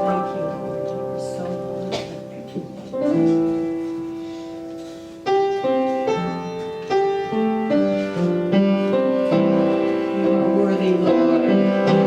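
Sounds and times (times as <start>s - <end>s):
solo piano music: 0.0s - 12.0s.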